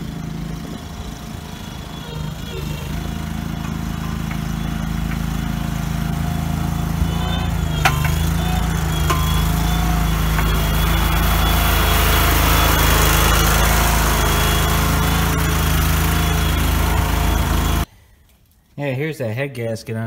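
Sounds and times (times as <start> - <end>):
gas engine running steadily: 0.0 - 17.9.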